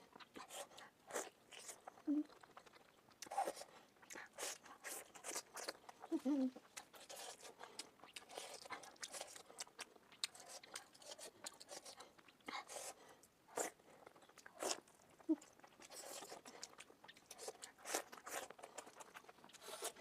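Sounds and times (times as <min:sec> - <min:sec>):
biting and chewing: 0:00.2 - 0:20.0.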